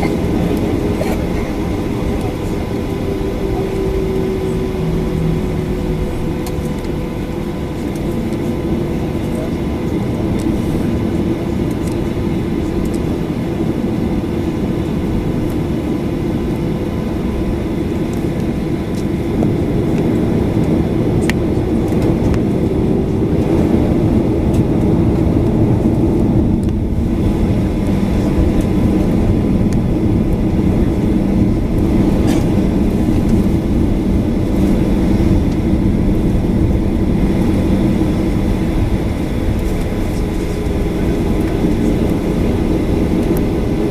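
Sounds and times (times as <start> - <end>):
airplane cabin engine hum: 0.0 - 43.9.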